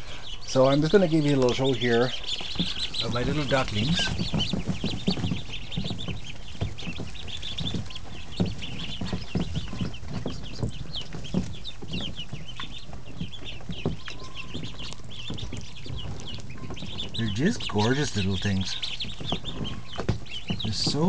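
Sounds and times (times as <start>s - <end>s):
ducklings peeping: 0.0s - 21.0s
soft low bumps: 0.0s - 21.0s.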